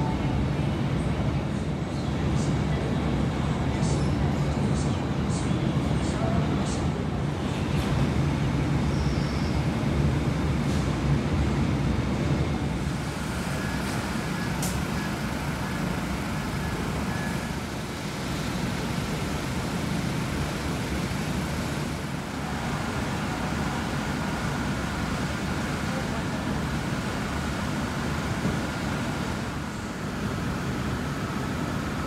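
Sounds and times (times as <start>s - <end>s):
idling railway machinery rumble: 0.0s - 32.0s.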